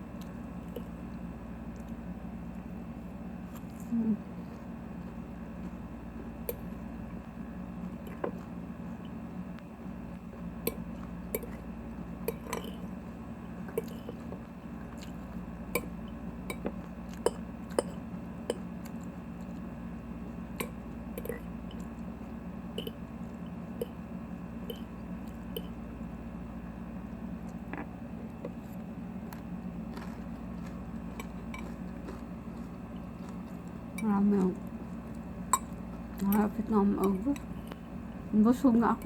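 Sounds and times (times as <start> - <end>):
chewing crunchy salad: 0.0 - 26.1, 27.4 - 39.0
steady low hum: 0.0 - 39.0.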